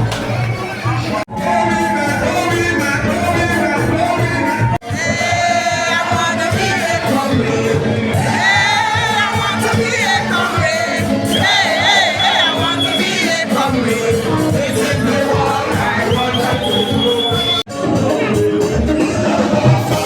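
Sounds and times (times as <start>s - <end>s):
music accompaniment: 0.0s - 20.0s
person singing: 0.8s - 20.0s.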